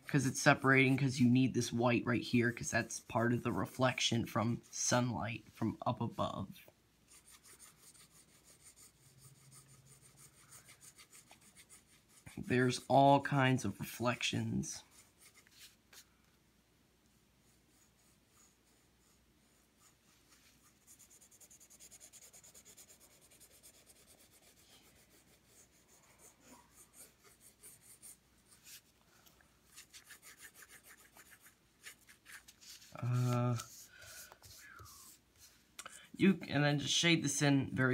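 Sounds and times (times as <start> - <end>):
pencil scratching on paper: 0.0 - 4.8, 7.1 - 16.0, 17.4 - 28.9, 29.7 - 35.7.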